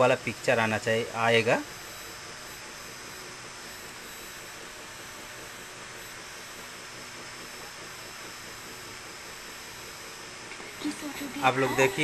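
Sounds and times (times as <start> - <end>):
high-pitched television whine: 0.0 - 12.0.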